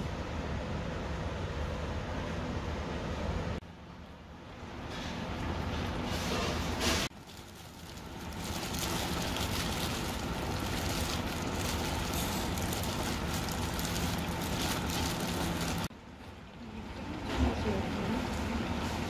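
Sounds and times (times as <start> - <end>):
restaurant background rush and hum: 0.0 - 19.0.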